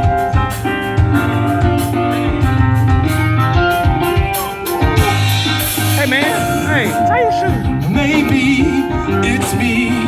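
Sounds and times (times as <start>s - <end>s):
drum hits: 0.0s - 8.7s
bass line: 0.0s - 10.0s
electric guitar playing: 0.0s - 10.0s.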